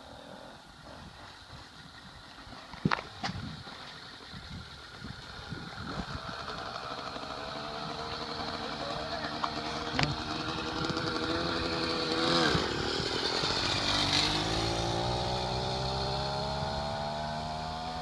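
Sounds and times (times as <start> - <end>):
small two-stroke engine running: 1.5 - 18.0.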